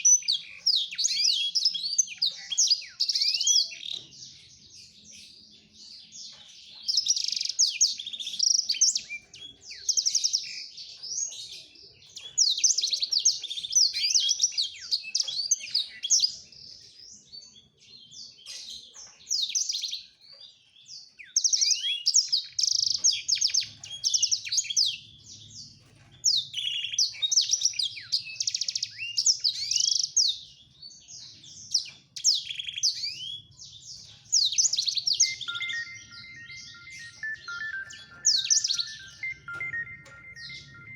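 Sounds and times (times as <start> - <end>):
bird singing high twittering trills: 0.0 - 40.9.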